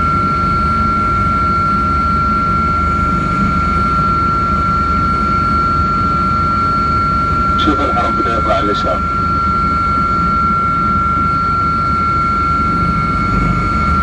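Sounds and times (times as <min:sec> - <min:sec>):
helicopter rotor and engine rumble: 0:00.0 - 0:14.0
high-pitched whine: 0:02.6 - 0:14.0.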